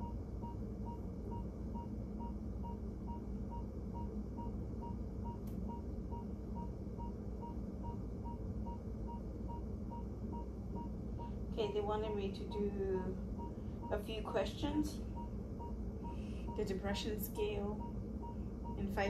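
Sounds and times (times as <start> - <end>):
hospital monitor beeping: 0.0 - 19.0
low room hum: 0.0 - 19.0.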